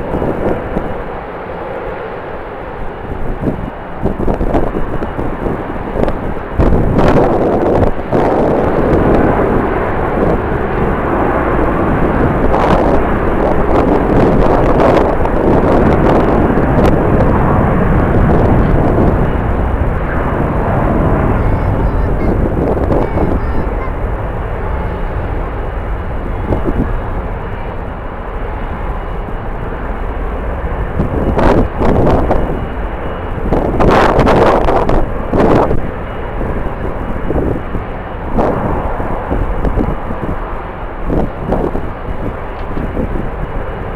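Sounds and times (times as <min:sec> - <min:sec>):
jet engines roaring: 0:00.0 - 0:43.9
wind buffeting microphone: 0:00.0 - 0:43.9.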